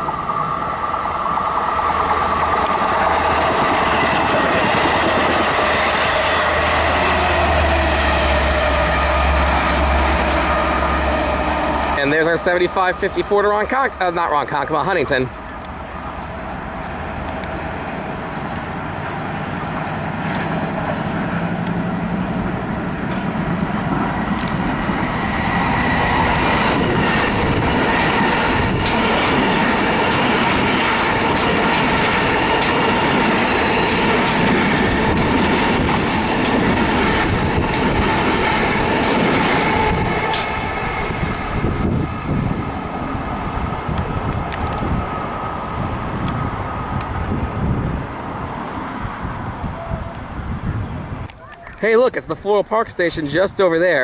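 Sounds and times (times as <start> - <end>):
train whine: 0.0 - 51.3
train passing: 0.0 - 54.0.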